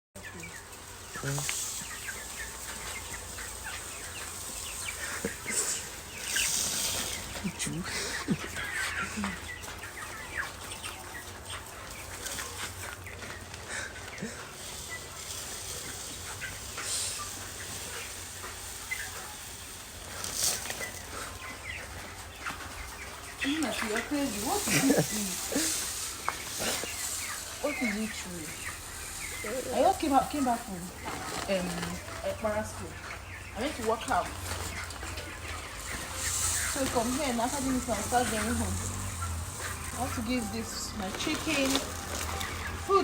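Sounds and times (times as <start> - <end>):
chicken clucking: 0.2 - 43.0
chickens chirping: 0.2 - 43.0
rustling bursts: 0.6 - 43.0.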